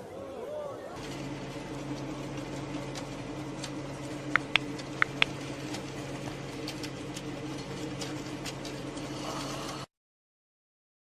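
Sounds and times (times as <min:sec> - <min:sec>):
moving train rumble: 0:01.0 - 0:09.9.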